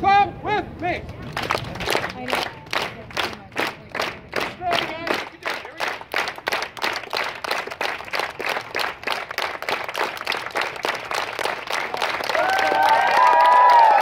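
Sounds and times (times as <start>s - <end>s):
crowd clapping in rhythm: 1.0s - 14.0s.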